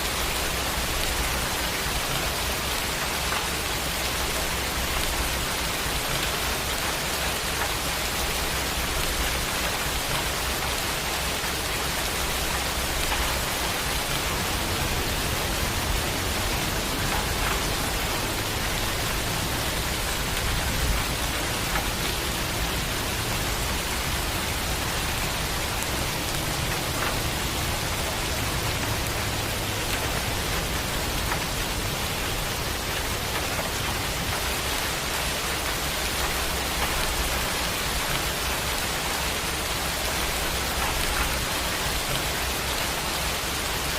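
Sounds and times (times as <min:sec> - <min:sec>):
raindrop ticks: 0:00.0 - 0:43.9
steady rain hiss: 0:00.0 - 0:43.9.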